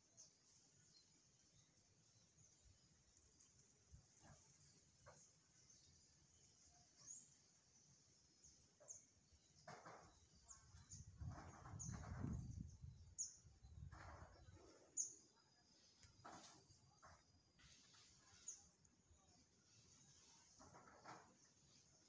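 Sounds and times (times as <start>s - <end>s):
faint high bird chirps: 0.0s - 22.0s.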